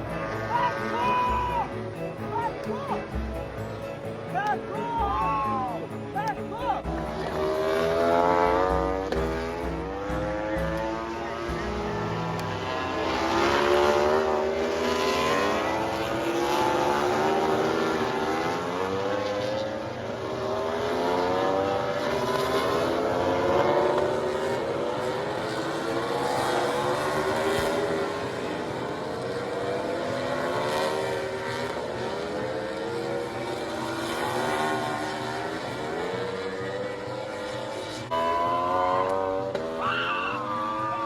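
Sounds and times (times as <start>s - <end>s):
racing motorcycles passing: 0.0s - 41.0s.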